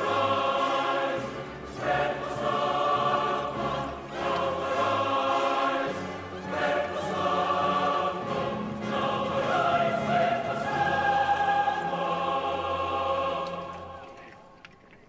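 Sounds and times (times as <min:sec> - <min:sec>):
choir singing a chant: 0:00.0 - 0:14.4.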